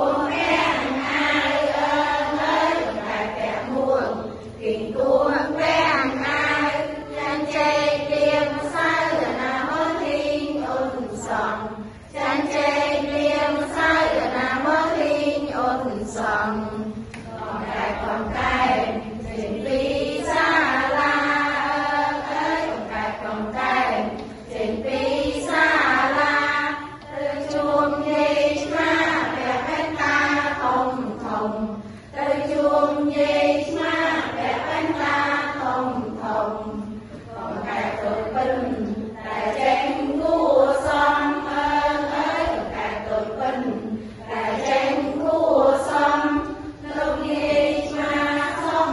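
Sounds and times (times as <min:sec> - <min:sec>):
women singing together: 0:00.0 - 0:48.9.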